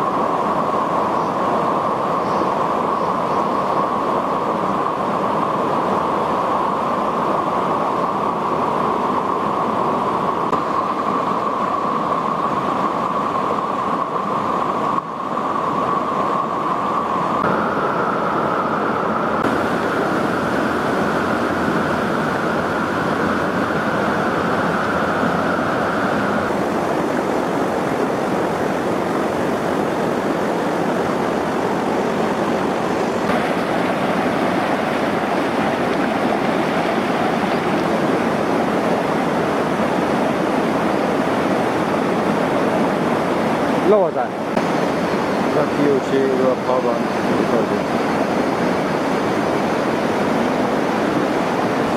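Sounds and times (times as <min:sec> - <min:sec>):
river rushing over rocks: 0:00.0 - 0:51.9.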